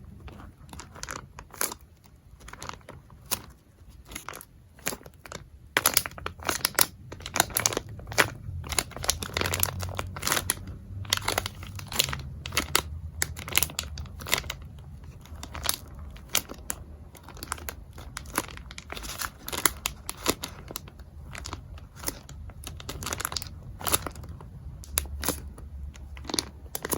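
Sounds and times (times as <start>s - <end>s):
packaging crinkling and rustling: 0.0s - 26.9s.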